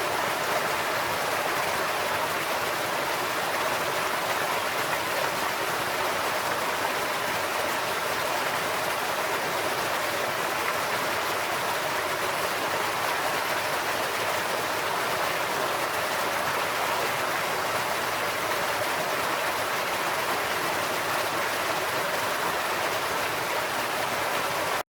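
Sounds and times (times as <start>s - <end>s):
water rushing over a cascade: 0.0s - 24.8s.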